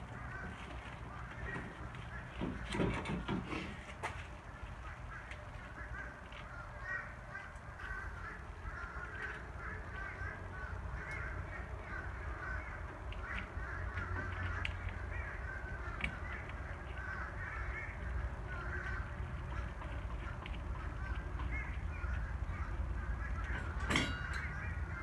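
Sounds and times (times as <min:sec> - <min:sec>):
flock of birds chattering: 0:00.0 - 0:25.0.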